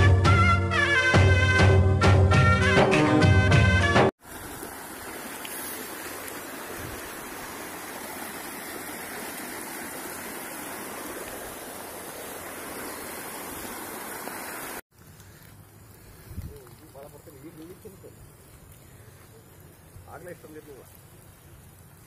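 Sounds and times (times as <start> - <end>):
water rushing along a channel: 4.2 - 22.0.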